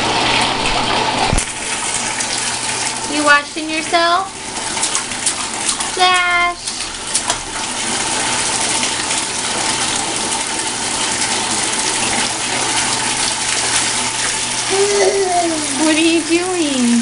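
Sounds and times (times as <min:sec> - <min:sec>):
tap running into bathtub: 0:00.0 - 0:17.0.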